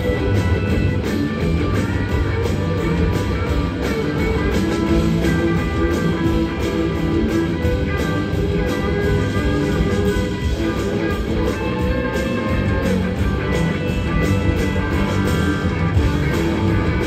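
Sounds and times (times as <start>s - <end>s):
electric guitars: 0.0s - 17.0s
steady drum beat: 0.0s - 17.0s.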